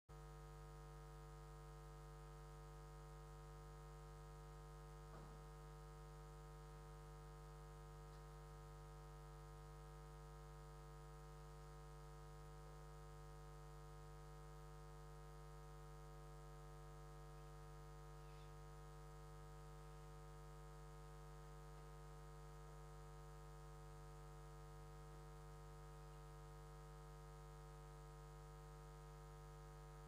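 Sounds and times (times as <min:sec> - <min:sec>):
faint electrical hum: 0:00.1 - 0:30.0.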